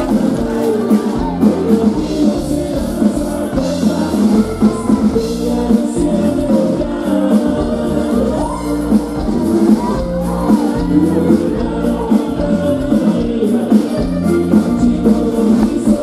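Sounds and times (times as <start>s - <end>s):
band playing dance music: 0.0s - 16.0s
person singing: 0.0s - 16.0s.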